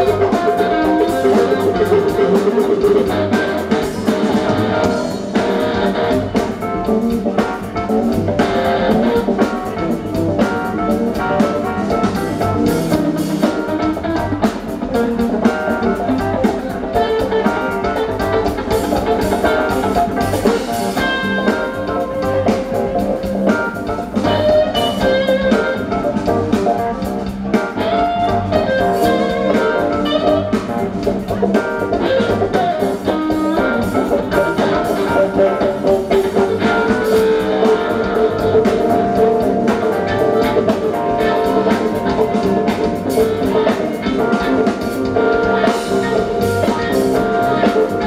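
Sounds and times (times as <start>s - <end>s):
bass guitar: 0.0s - 48.0s
drum kit: 0.0s - 48.0s
electric guitars: 0.0s - 48.0s
keyboard: 0.0s - 48.0s.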